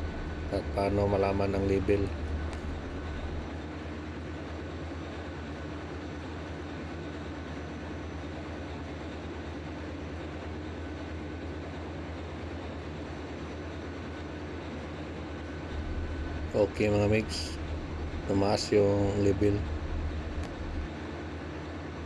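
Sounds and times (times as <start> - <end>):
engine room machinery drone: 0.0 - 22.0.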